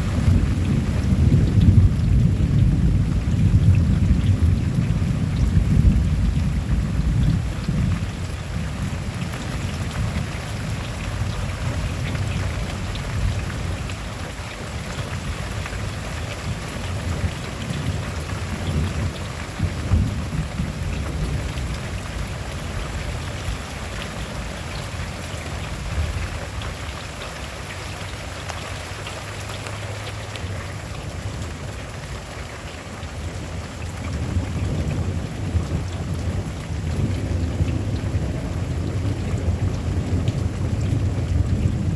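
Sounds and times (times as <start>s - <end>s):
low rolling thunder: 0.0s - 27.0s, 33.1s - 41.9s
steady rain falling: 0.0s - 41.9s.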